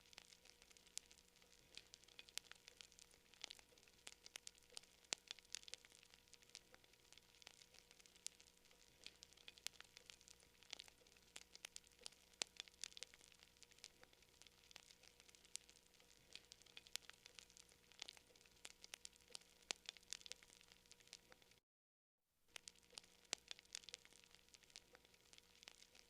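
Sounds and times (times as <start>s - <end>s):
campfire crackling: 0.0s - 21.6s, 22.5s - 26.0s.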